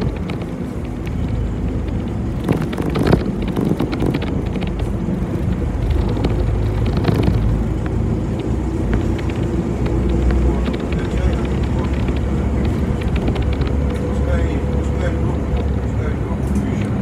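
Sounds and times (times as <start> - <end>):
bus engine and road rumble: 0.0 - 17.0
clicks and rattles: 0.0 - 17.0.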